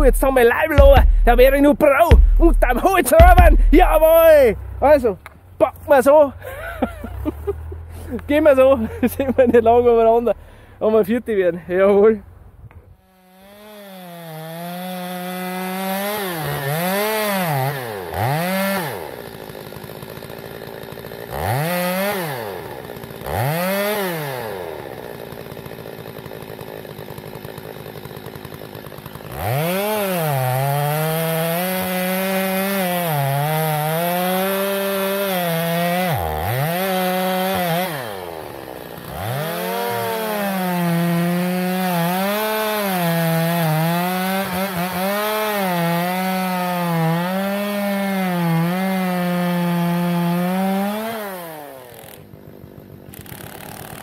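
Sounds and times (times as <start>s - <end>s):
chainsaw cutting tree: 0.0s - 4.5s, 12.8s - 54.0s.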